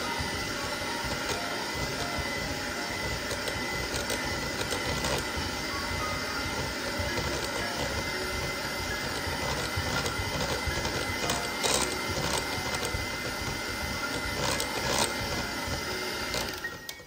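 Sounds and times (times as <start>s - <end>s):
electric mixer whining: 0.0s - 17.0s.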